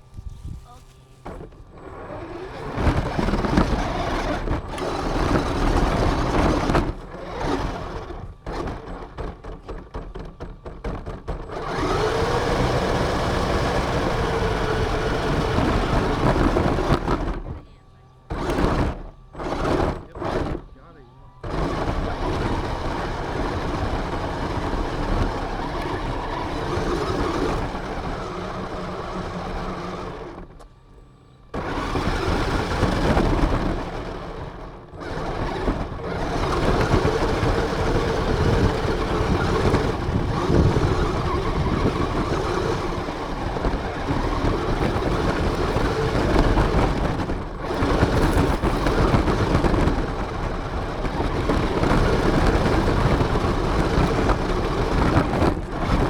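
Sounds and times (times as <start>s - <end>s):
rc car motor and wind noise: 0.0s - 56.0s.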